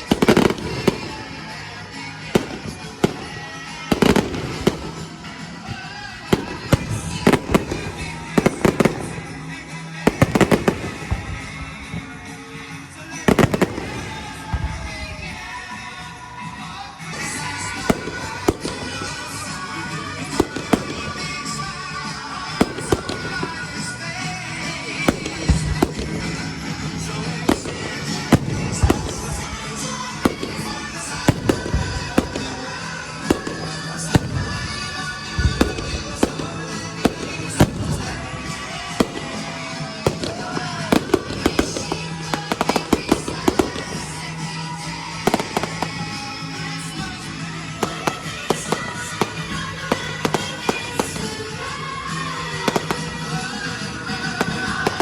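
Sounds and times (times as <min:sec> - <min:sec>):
fireworks bursting: 0:00.0 - 0:55.0
music playing: 0:00.0 - 0:55.0.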